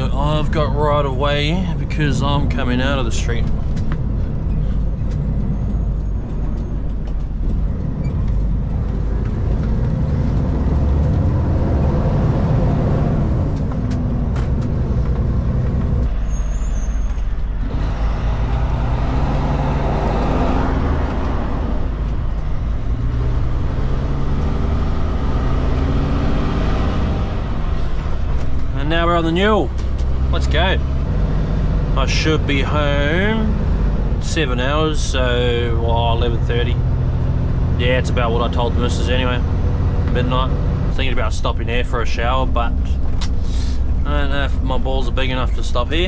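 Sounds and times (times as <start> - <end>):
diesel truck engine accelerating: 0.0 - 46.0.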